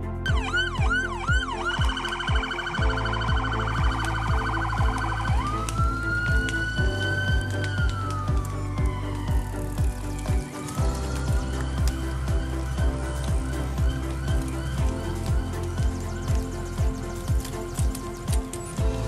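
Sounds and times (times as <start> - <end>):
background music with beat: 0.0 - 19.0
electronic siren: 0.3 - 16.0.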